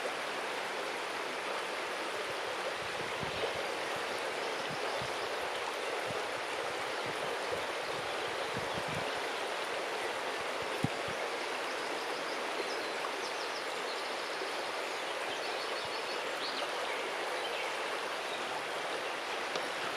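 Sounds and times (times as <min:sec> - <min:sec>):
river flowing over stones: 0:00.0 - 0:19.9.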